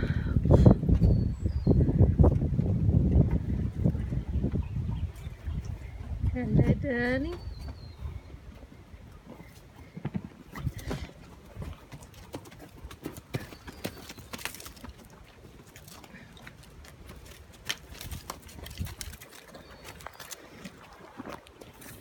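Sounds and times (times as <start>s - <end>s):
horse hooves clicking and thumping: 0.8s - 22.0s.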